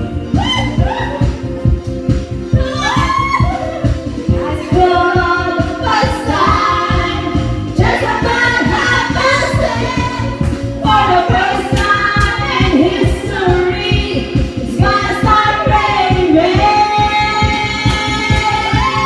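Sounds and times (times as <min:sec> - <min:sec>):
pop song with voices singing: 0:00.0 - 0:19.0.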